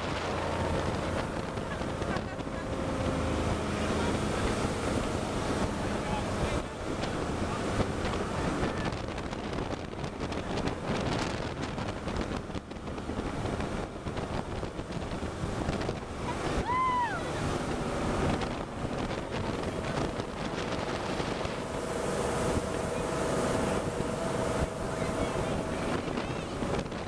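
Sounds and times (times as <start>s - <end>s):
engine hum: 0.0s - 27.0s
rushing water: 0.0s - 27.0s
wind buffeting microphone: 0.0s - 27.0s.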